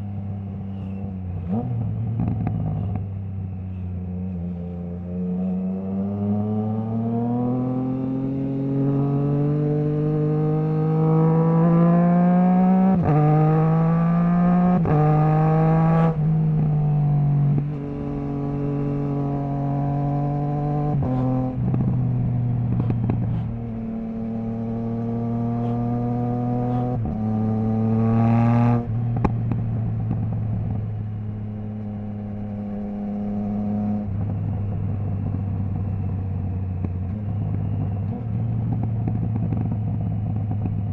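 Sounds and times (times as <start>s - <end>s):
motorcycle engine revving through gears: 0.0s - 40.9s.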